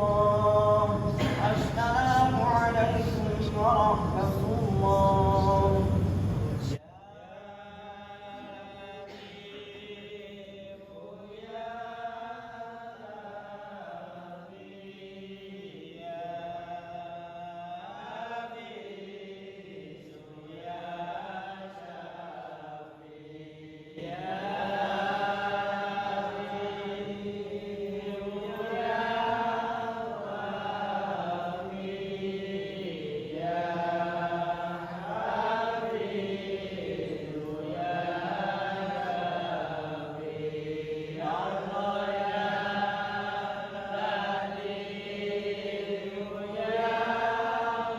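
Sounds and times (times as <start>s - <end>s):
unaccompanied vocal chanting: 0.0s - 47.9s.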